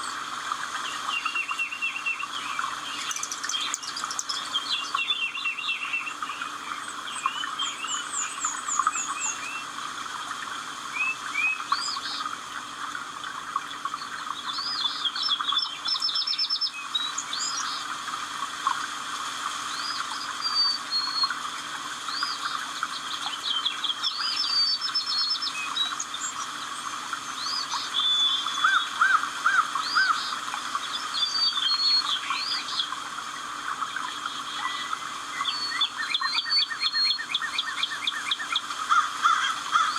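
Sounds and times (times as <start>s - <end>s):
birds chirping and trilling: 0.0s - 9.9s, 10.8s - 18.8s, 19.6s - 39.9s
background bird chorus: 0.0s - 39.9s.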